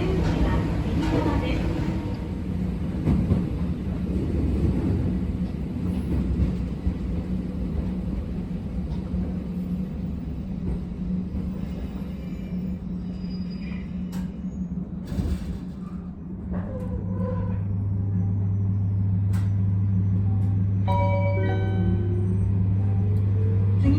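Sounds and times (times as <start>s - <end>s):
train wheels rumbling on track: 0.0s - 23.9s.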